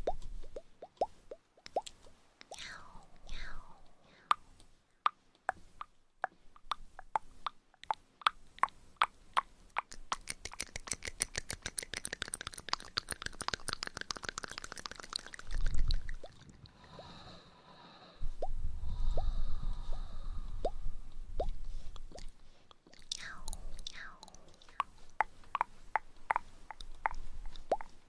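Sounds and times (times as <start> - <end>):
wet mouth clicks and pops: 0.0 - 16.7, 18.3 - 28.0.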